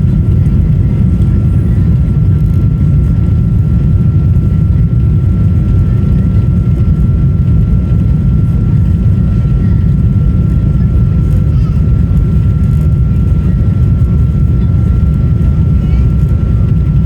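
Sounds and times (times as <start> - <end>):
jet engines deep rumble: 0.0 - 17.0
thin steady whine: 0.0 - 17.0.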